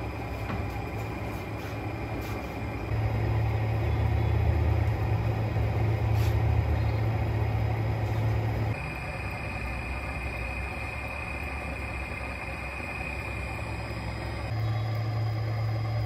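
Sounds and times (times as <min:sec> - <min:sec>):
pottery wheel motor hum: 0:00.0 - 0:16.0.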